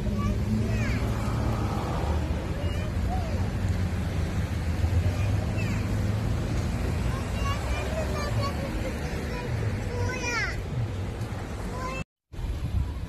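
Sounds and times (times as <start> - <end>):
cars passing on city road: 0.0 - 13.0.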